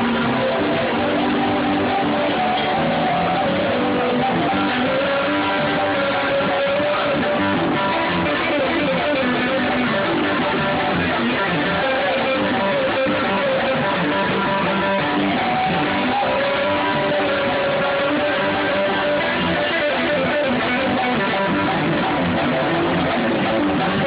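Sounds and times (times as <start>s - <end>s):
strummed guitar: 0.0s - 24.0s.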